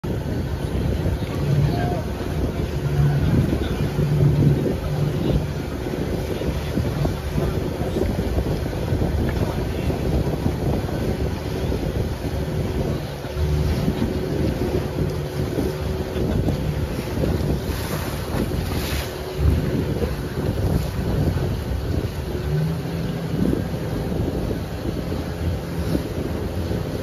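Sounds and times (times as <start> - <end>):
choppy sea water: 0.0 - 27.0
faint boat motor hum: 0.0 - 27.0
wind buffeting microphone: 0.0 - 27.0.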